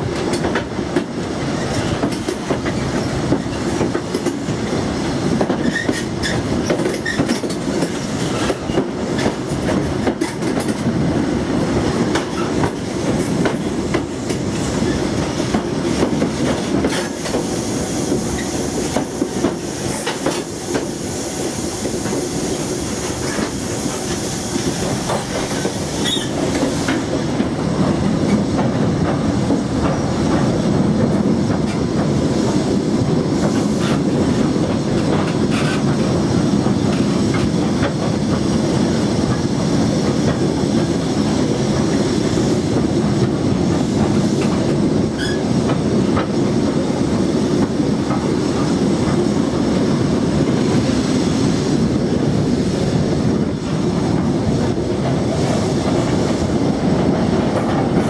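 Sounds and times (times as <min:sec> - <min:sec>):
rail joint clicks: 0:00.0 - 0:58.0
train wheels rumbling on track: 0:00.0 - 0:58.0.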